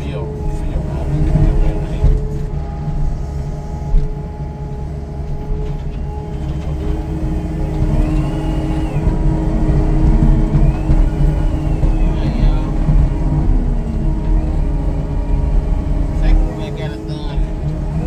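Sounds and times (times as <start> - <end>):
excavator running: 0.0 - 18.0.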